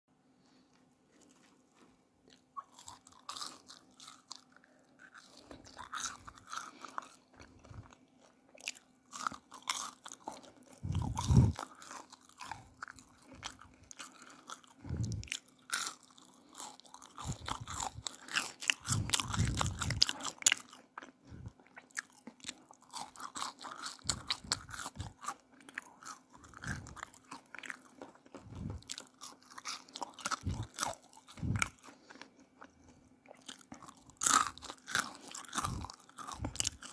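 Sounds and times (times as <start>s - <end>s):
faint low hum: 0.1s - 36.9s
crunching and chewing fries: 0.5s - 36.9s.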